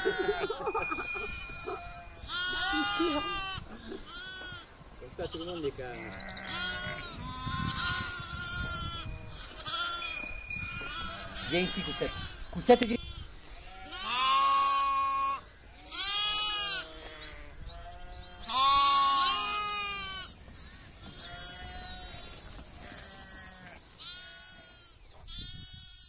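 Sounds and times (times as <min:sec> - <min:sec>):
sheep bleating: 0:00.0 - 0:26.0.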